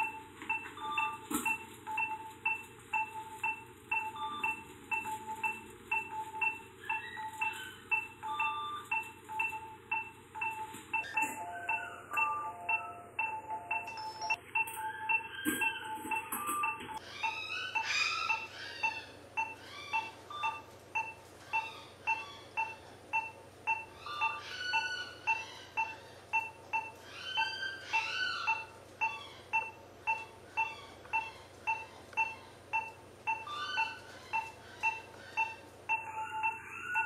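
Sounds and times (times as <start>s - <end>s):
patient monitor beeping: 0.0s - 37.0s.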